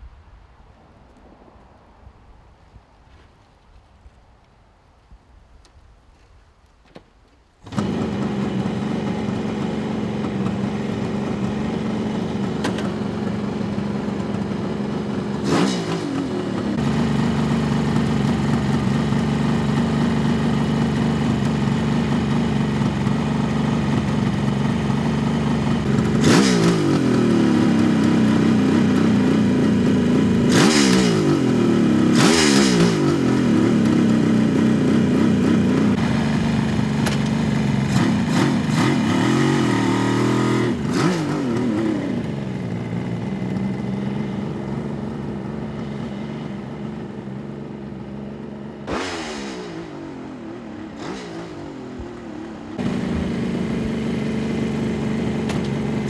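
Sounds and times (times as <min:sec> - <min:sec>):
motorcycle engine revving: 0:07.6 - 0:56.0.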